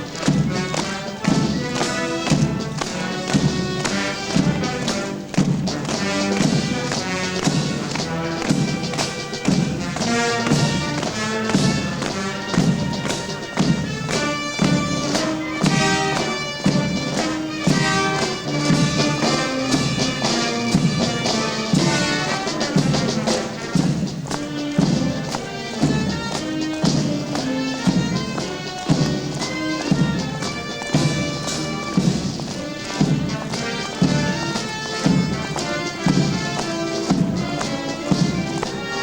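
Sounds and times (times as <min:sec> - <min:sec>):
military band playing a march: 0:00.0 - 0:39.0
steady drum beat: 0:00.0 - 0:39.0.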